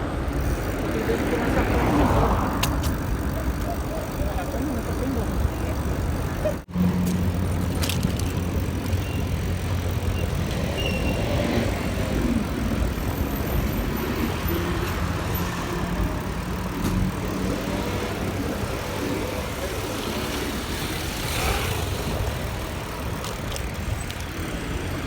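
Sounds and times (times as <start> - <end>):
wind and road noise from bicycle: 0.0 - 25.0.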